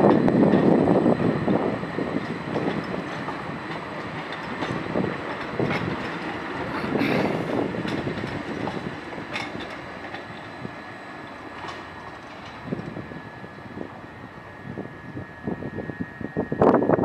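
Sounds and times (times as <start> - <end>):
wheels clacking over rail joints: 0.0 - 14.6
tram running on tracks: 0.0 - 17.0.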